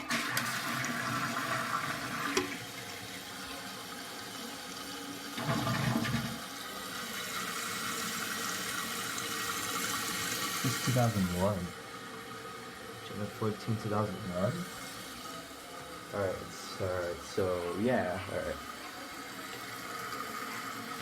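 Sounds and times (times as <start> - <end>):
toilet flushing: 0.0 - 21.0
toilet tank refilling hiss: 0.0 - 21.0.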